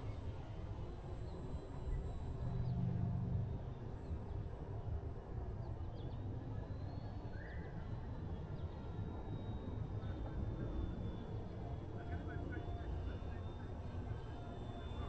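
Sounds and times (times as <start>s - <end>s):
rc plane electric motor whine: 0.0s - 15.0s.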